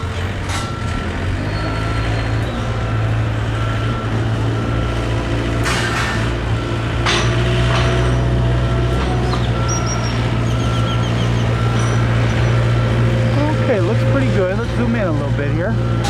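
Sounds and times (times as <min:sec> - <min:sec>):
backup alarm beeping: 0:00.0 - 0:16.0
diesel engine of heavy machinery: 0:00.0 - 0:16.0.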